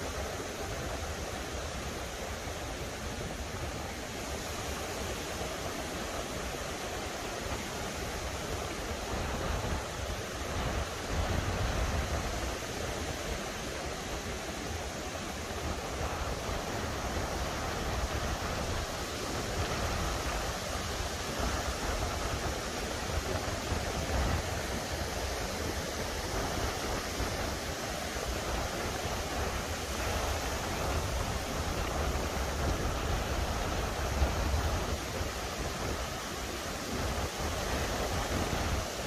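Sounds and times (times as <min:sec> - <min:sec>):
surf breaking on shore: 0:00.0 - 0:39.0
wind buffeting microphone: 0:00.0 - 0:39.0.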